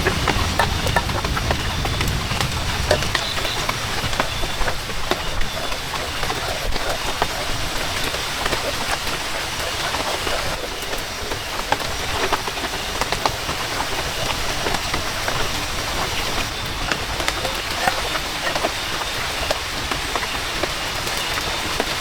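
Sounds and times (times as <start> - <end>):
close raindrops striking: 0.0 - 22.0
heavy rain: 0.0 - 22.0.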